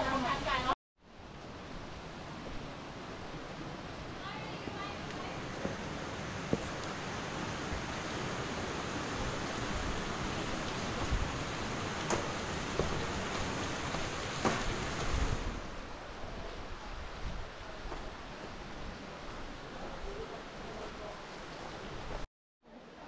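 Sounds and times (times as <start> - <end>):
rushing water: 0.0 - 22.3.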